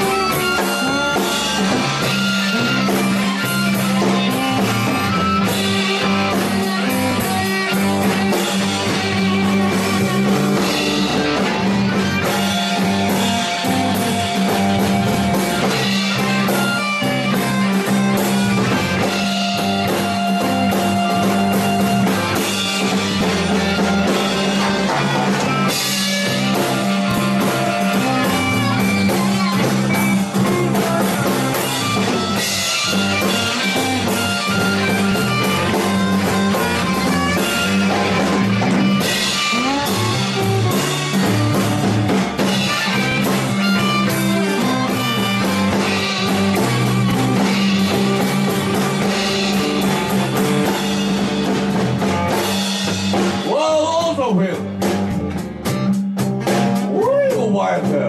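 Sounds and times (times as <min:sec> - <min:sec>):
bass: 0:00.0 - 0:58.0
drums: 0:00.0 - 0:58.0
slide guitar: 0:00.0 - 0:58.0.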